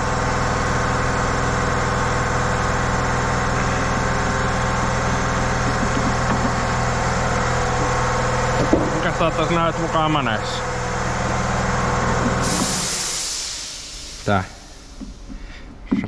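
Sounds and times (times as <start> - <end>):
air compressor drone: 0.0 - 16.0.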